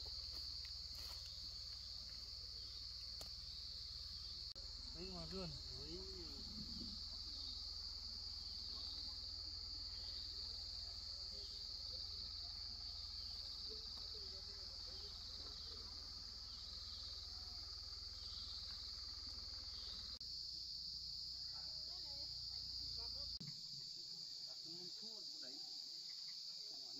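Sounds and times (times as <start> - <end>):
insect chorus drone: 0.0 - 26.9.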